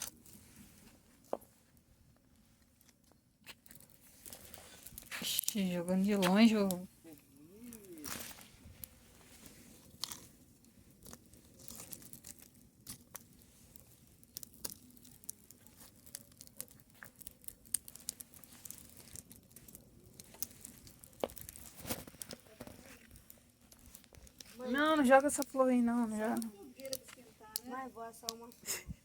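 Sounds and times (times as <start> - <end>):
sharp pops and snaps: 0.0 - 28.8
wood bonfire crackling: 0.0 - 29.0.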